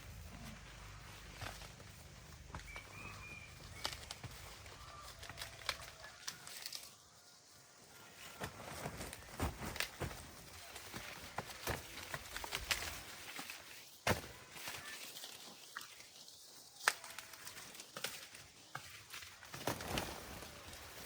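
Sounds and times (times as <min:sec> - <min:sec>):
dry corn plants rustling: 0:00.0 - 0:21.0.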